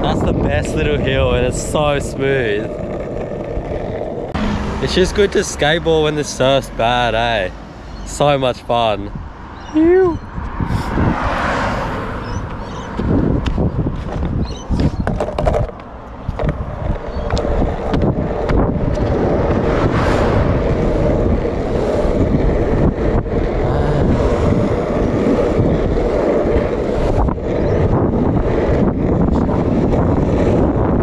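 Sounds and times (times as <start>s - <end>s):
skateboard wheels rolling on asphalt: 0.0s - 31.0s
wind buffeting microphone: 0.0s - 31.0s.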